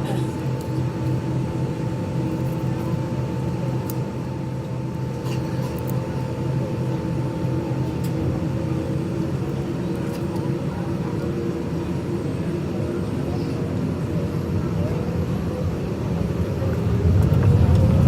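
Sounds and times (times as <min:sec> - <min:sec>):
jet engines humming: 0:00.0 - 0:18.0.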